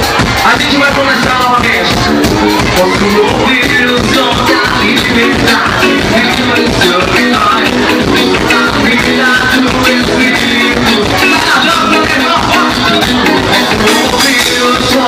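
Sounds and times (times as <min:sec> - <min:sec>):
driving drumbeat: 0:00.0 - 0:15.0
live band playing upbeat music: 0:00.0 - 0:15.0.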